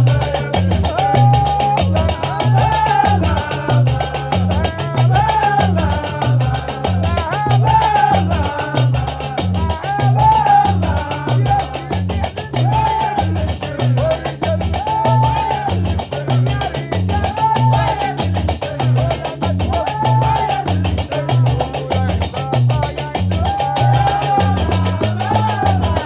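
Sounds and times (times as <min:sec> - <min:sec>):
men singing together: 0:00.0 - 0:26.0
plucked bass lute: 0:00.0 - 0:26.0.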